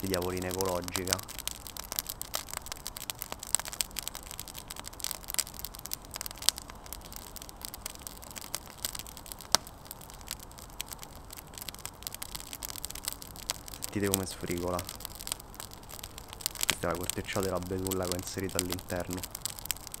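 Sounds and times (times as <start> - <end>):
small fire crackling and popping: 0.0 - 20.0.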